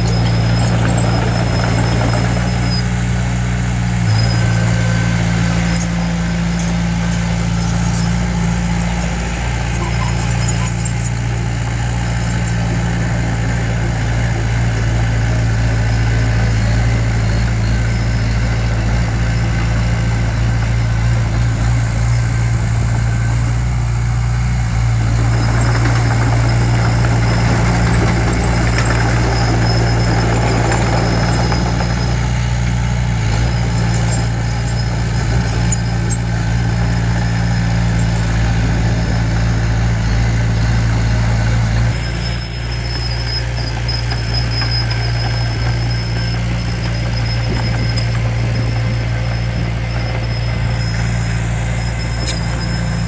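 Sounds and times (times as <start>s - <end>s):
heavy diesel engine running: 0.0s - 53.0s.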